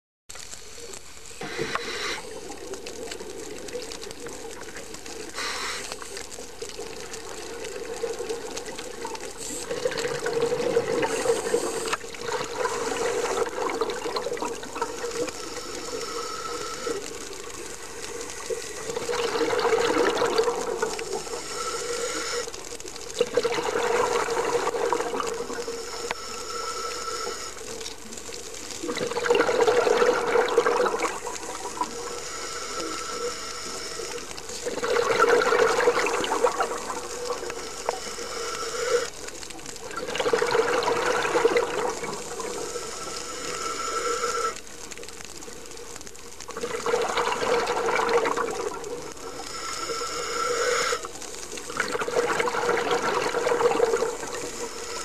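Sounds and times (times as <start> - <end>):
underwater exhaled bubbles rushing: 1.4 - 55.0.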